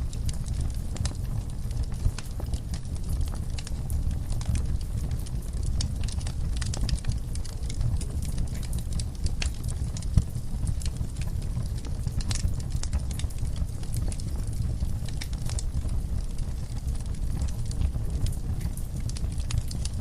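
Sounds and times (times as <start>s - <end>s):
fire rumbling: 0.0s - 20.0s
logs crackling and popping: 0.0s - 20.0s.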